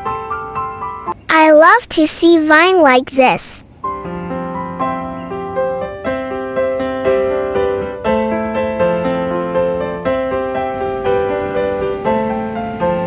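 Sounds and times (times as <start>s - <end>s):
gentle piano melody: 0.0s - 1.3s, 3.7s - 13.0s.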